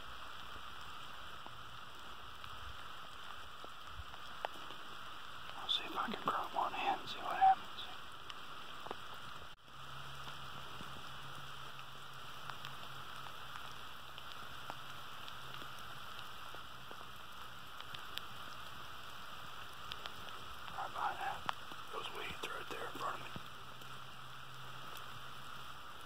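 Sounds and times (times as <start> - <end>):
light rain on grass: 0.0 - 26.0
raindrop ticks: 0.0 - 26.0.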